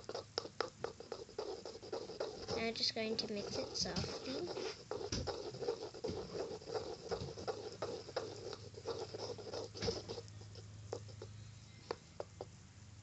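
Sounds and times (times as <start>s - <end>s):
slime squelching in a bowl: 0.0s - 11.3s.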